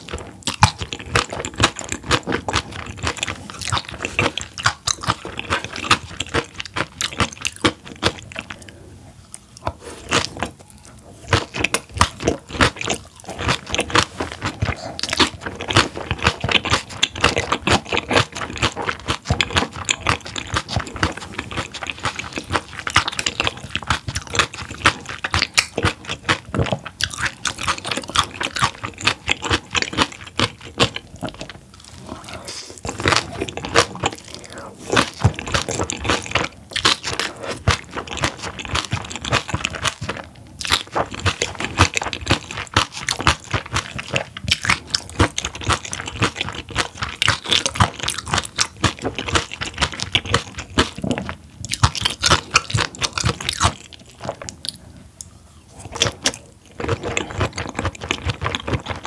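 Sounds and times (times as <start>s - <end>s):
crisp chewing and crunching: 0.0s - 59.0s.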